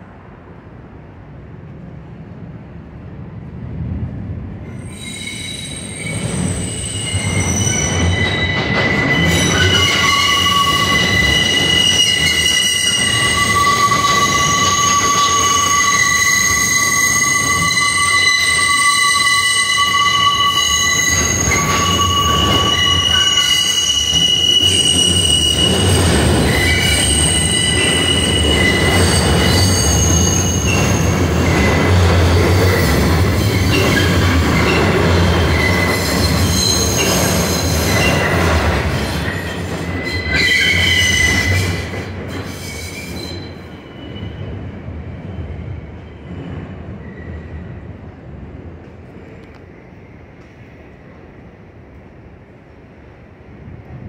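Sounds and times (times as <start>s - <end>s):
train rumbling: 0.0s - 54.0s
train wheels squealing: 4.7s - 48.0s.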